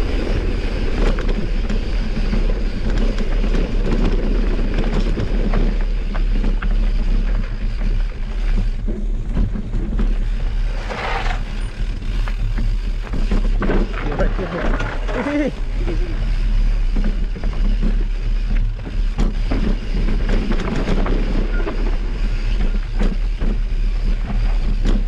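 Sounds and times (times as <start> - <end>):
bike rattling and clicking: 0.0 - 25.0
bike tyres rolling over dirt: 0.0 - 25.0
steady low rumble: 0.0 - 25.0.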